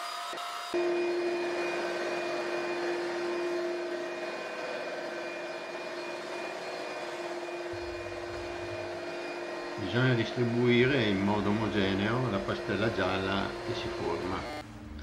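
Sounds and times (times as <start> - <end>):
floor polisher motor humming: 0.0 - 15.0.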